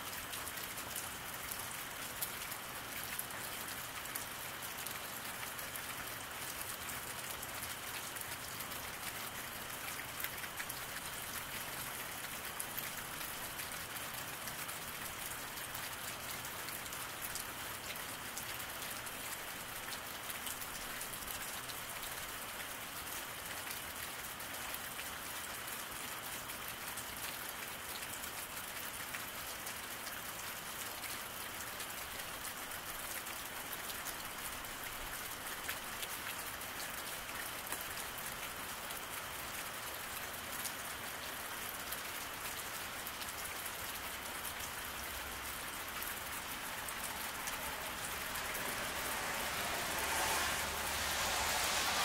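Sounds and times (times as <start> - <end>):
rain falling on wet road: 0.0 - 52.0.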